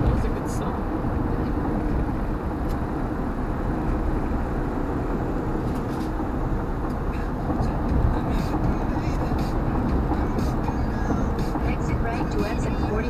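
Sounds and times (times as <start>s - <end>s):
car road and tyre noise: 0.0s - 13.0s.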